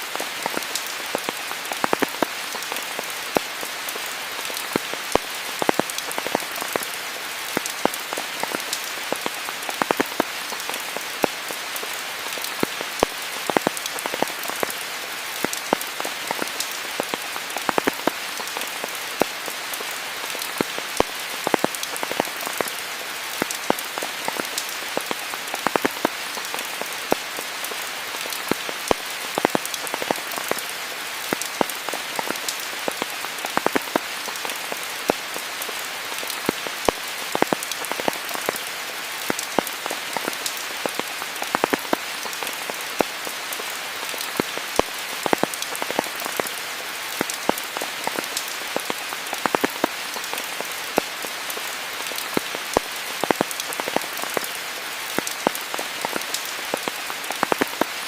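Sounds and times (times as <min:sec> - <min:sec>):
raindrops ticking on surfaces: 0:00.0 - 0:58.0
steady rain hiss: 0:00.0 - 0:58.0.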